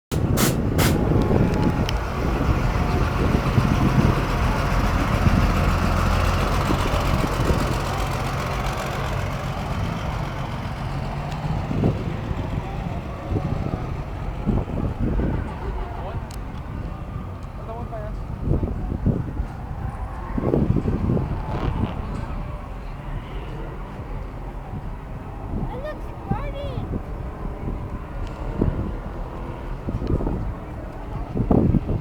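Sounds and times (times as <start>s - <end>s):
car engine rumbling: 0.0s - 32.0s
outdoor background noise: 0.1s - 32.0s.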